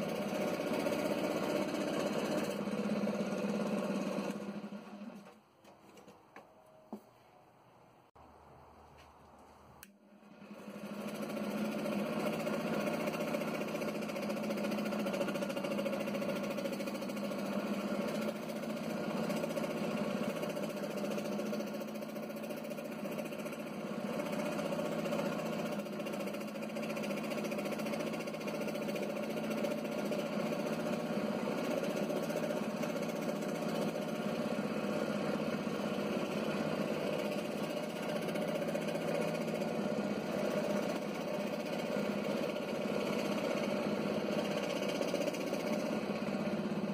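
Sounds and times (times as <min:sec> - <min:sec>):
scroll saw cutting: 0:00.0 - 0:05.4, 0:09.8 - 0:46.9.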